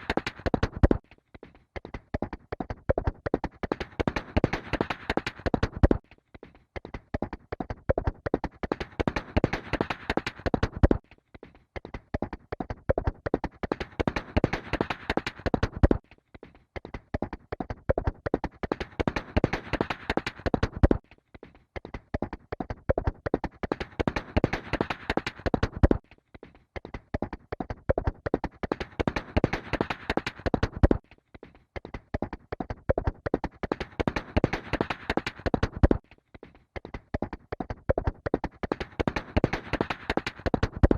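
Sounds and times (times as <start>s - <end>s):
horse hooves galloping: 0.0s - 1.0s, 1.8s - 6.0s, 6.9s - 11.0s, 11.9s - 16.0s, 16.9s - 21.0s, 21.9s - 26.0s, 26.8s - 31.0s, 31.8s - 36.0s, 36.8s - 40.9s.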